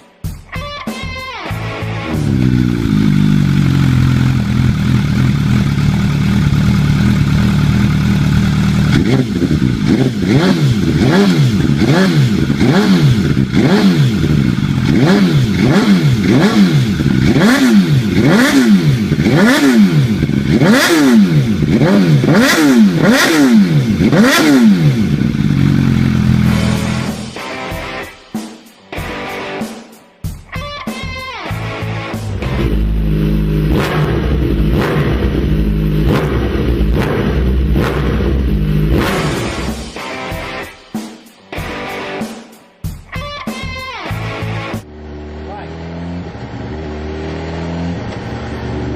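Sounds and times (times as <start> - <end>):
motorcycle engine idling and revving: 1.5 - 28.0, 31.6 - 40.7, 44.1 - 48.9.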